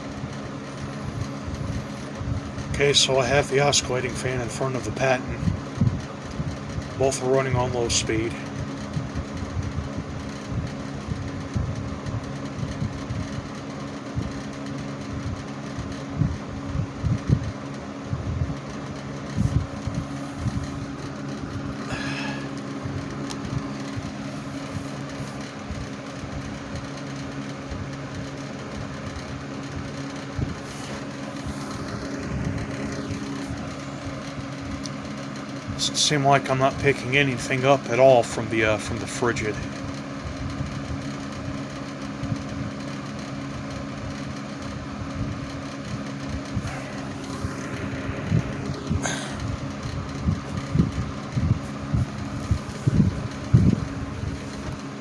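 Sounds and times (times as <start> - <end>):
air buffeting the microphone: 0.0 - 55.0
box fans humming: 0.0 - 55.0.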